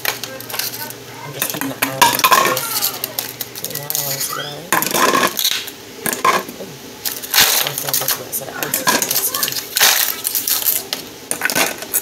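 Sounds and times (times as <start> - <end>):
dishes and utensils clinking: 0.0 - 5.4, 7.4 - 12.0.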